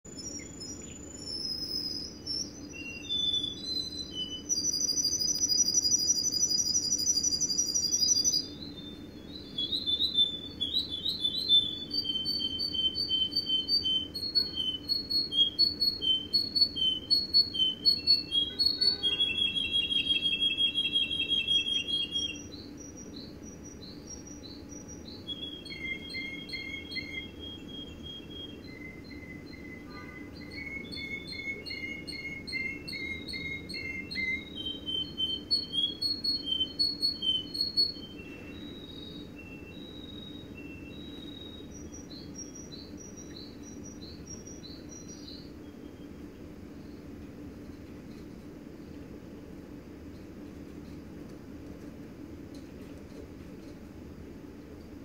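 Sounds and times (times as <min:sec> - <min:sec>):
canary singing: 0:00.1 - 0:47.1.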